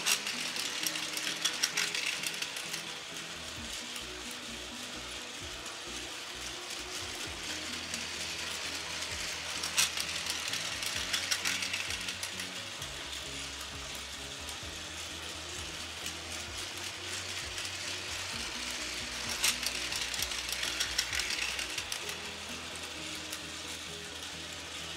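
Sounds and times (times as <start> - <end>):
toy train clattering: 0.0 - 24.9
toy train motor whirring: 0.0 - 24.9.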